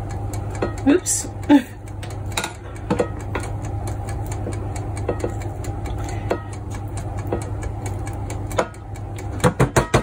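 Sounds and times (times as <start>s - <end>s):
air fryer fan humming: 0.0s - 10.0s.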